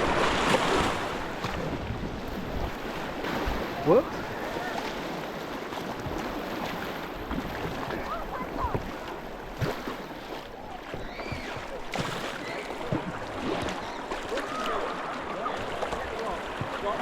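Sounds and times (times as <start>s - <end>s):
river water rushing: 0.0s - 17.0s
water splashing around kayak: 0.0s - 17.0s.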